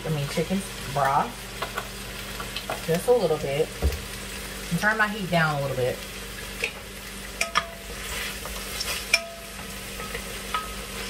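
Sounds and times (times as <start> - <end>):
sausages sizzling: 0.0 - 11.0.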